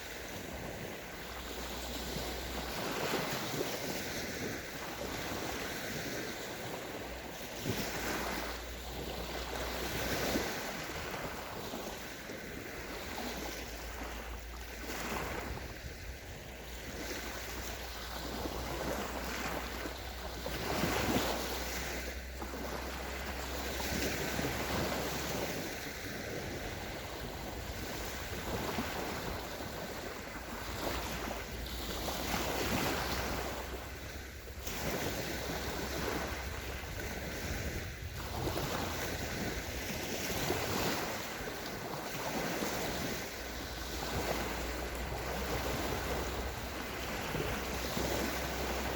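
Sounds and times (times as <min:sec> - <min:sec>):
small waves breaking on shore: 0:00.0 - 0:48.9
wind rumble on microphone: 0:00.0 - 0:48.9.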